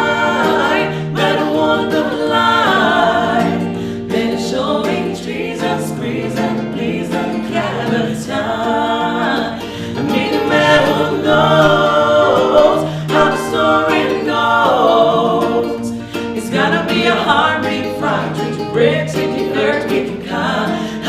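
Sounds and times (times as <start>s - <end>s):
vocal trio singing in harmony: 0.0s - 21.0s.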